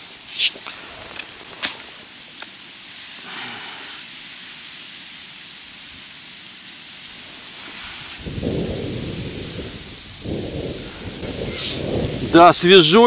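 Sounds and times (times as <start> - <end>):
wind hissing over water: 0.0 - 13.0.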